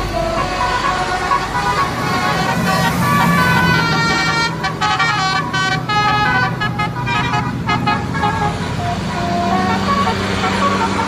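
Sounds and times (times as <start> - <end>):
bus engine hum: 0.0 - 11.0
bus musical horn playing tune: 0.0 - 11.0.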